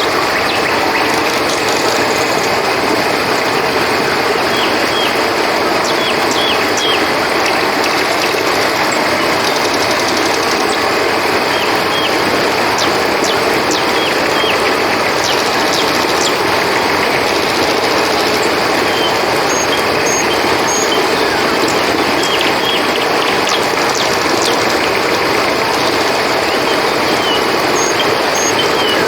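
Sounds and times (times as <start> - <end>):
crickets chirping: 0.0 - 29.0
river water running: 0.0 - 29.0.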